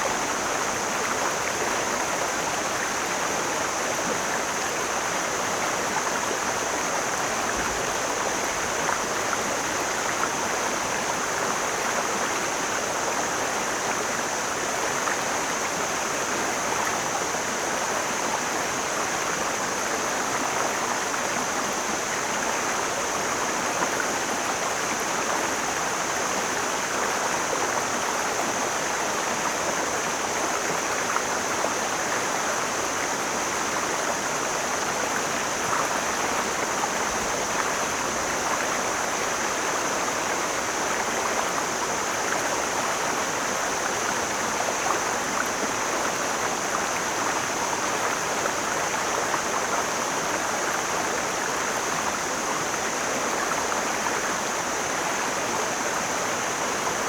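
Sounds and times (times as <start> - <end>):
stream rushing water: 0.0 - 57.0.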